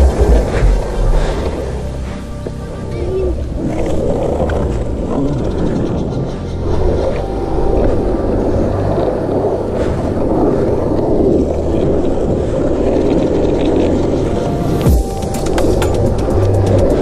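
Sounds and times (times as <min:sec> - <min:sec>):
wind buffeting microphone: 0:00.0 - 0:17.0
small wheels rolling on asphalt: 0:00.2 - 0:05.8, 0:06.7 - 0:17.0.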